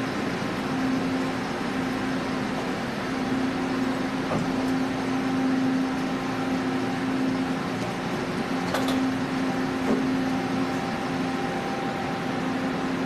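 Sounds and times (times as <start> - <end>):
machine hum with low tone: 0.0 - 13.0.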